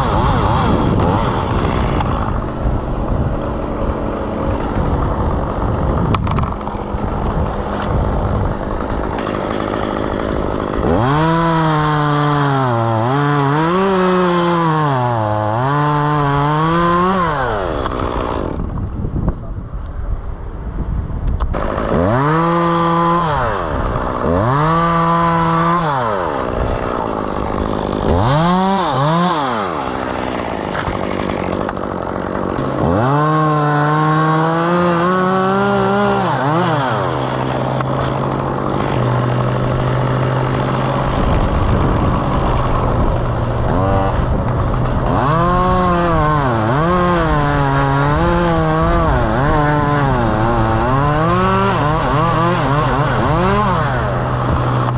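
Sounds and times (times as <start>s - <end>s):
chainsaw revving and idling: 0.0s - 19.0s, 21.4s - 54.9s.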